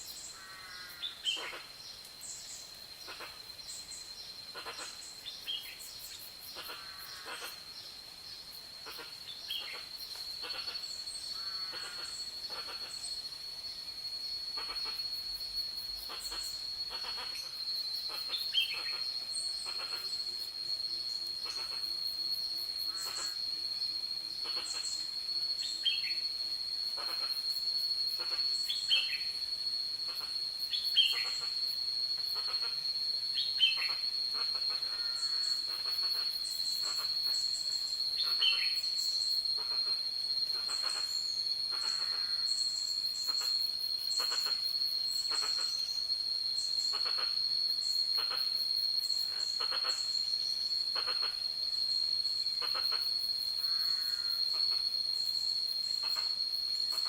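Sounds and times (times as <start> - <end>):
insect trilling: 0.0 - 57.0.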